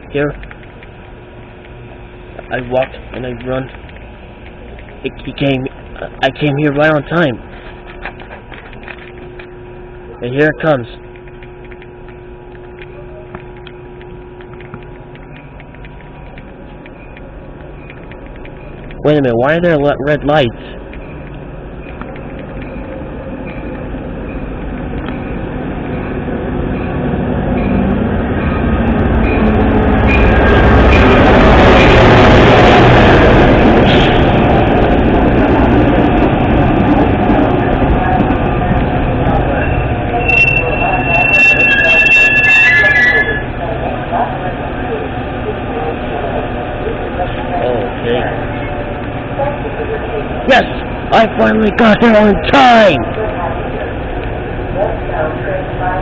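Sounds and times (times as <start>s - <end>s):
train rumbling: 11.1s - 56.0s.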